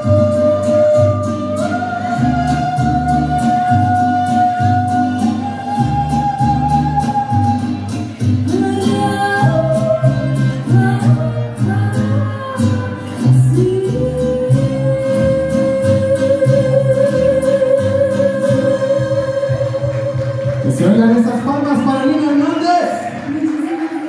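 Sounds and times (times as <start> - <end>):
song with singing and beat: 0.0 - 24.0.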